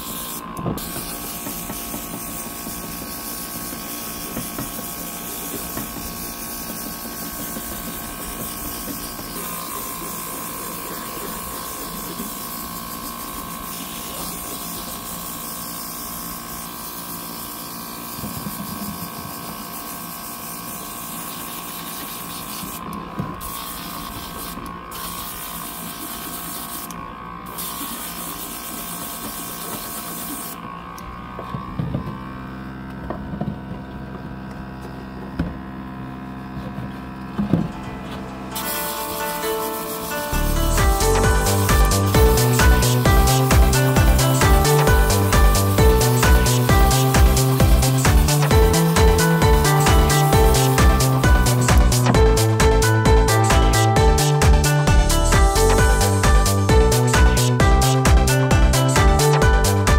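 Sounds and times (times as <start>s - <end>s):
airbrush spraying hiss: 0.0s - 30.6s, 38.5s - 59.9s
compressor motor hum: 0.0s - 59.9s.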